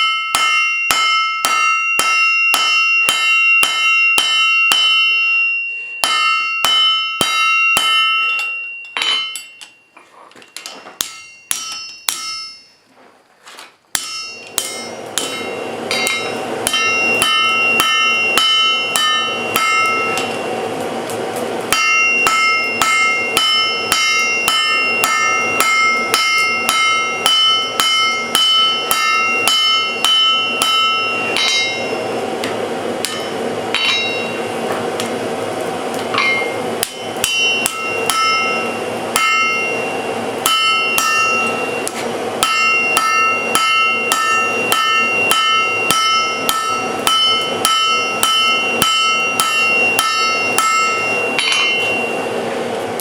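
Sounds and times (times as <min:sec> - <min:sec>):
hammer striking steel on anvil: 0:00.0 - 0:12.8, 0:13.9 - 0:53.0.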